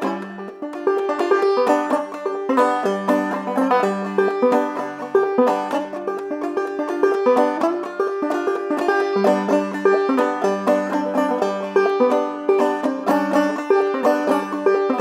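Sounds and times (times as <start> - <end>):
banjo plucked notes: 0.0 - 15.0.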